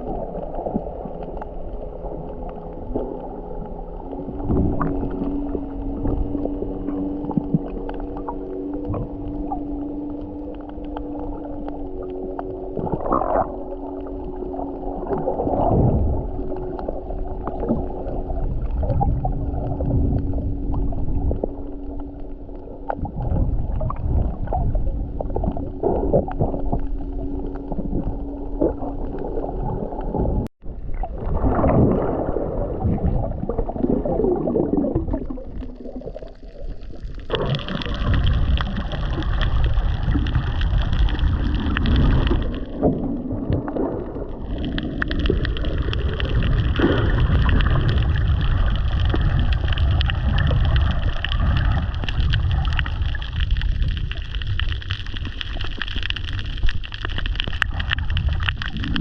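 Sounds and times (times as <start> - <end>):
droning underwater engine hum: 0.0 - 59.0
underwater bubbling and sloshing: 0.0 - 59.0.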